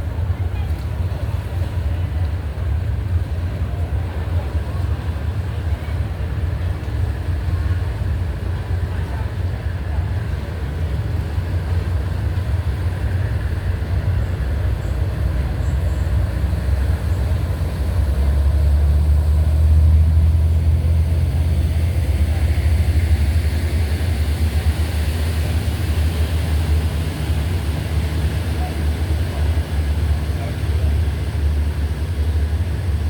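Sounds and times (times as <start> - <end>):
ferry engine rumbling: 0.0 - 33.0.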